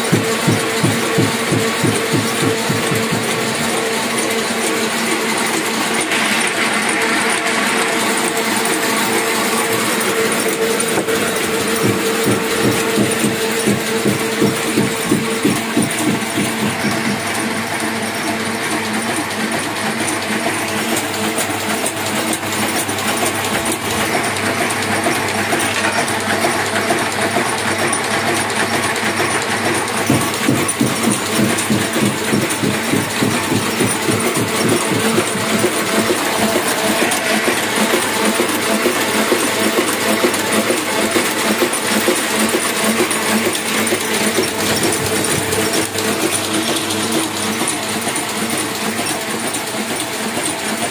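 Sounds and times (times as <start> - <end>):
printing press clattering: 0.0 - 50.9.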